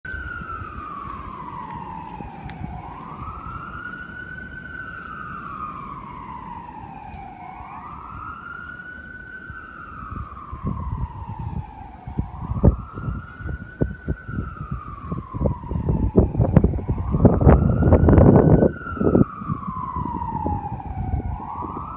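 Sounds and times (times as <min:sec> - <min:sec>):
emergency siren wailing: 0:00.0 - 0:21.9.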